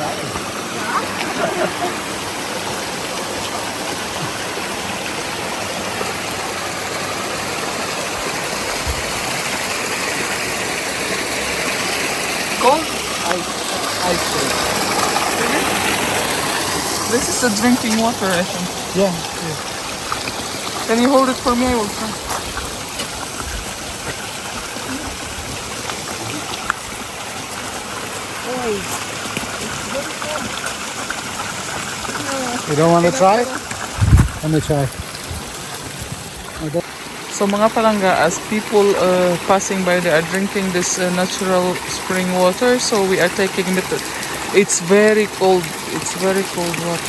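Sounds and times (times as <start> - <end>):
small waterfall rushing: 0.0 - 47.0
stream flowing: 0.0 - 47.0.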